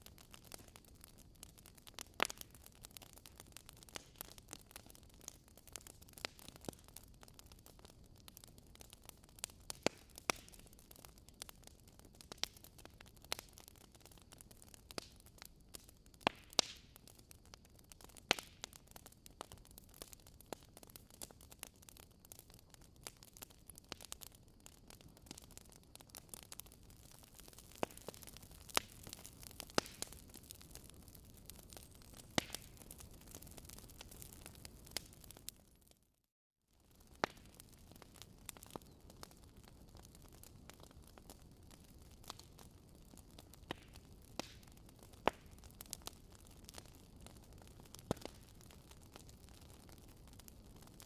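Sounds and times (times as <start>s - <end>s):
wood fire crackling and popping: 0.0s - 35.9s, 36.8s - 51.0s.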